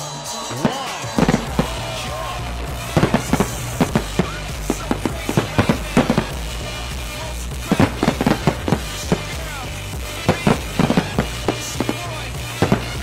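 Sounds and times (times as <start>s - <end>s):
fireworks bursting with sharp bangs: 0.4s - 13.0s.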